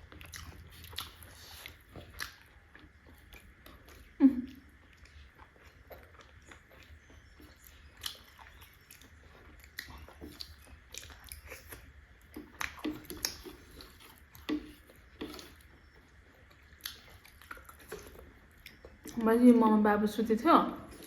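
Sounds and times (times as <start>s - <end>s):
mouth chewing and smacking: 0.0s - 19.3s.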